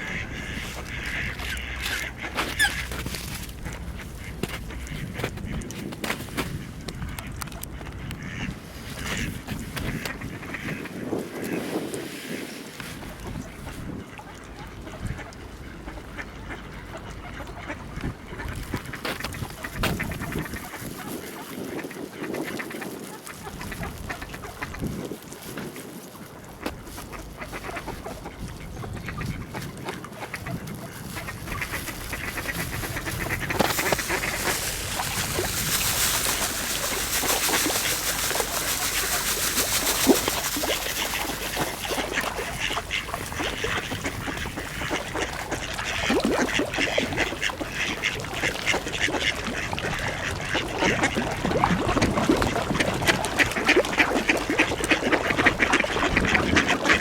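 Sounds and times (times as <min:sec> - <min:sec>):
ducks quacking: 0:00.0 - 0:05.7, 0:06.4 - 0:12.4, 0:13.2 - 0:25.0, 0:26.4 - 0:57.0.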